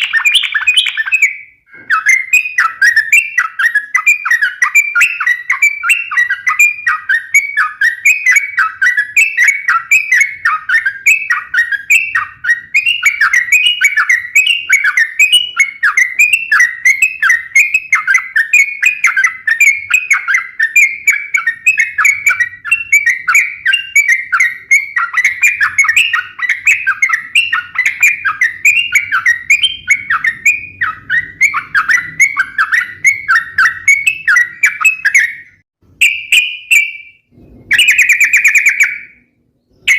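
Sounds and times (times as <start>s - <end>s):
bulbul singing bubbly chirps: 0.0s - 39.2s.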